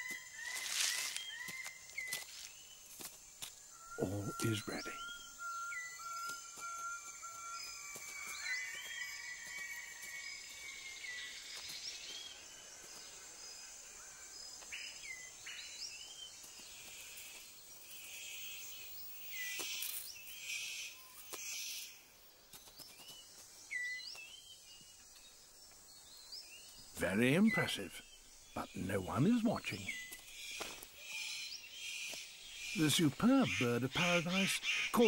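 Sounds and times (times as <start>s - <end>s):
insect drone: 0.0s - 35.0s.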